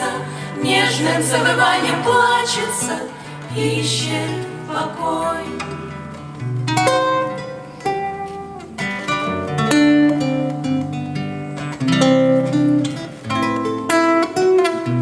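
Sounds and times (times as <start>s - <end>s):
instrumental guitar music: 0.0s - 15.0s.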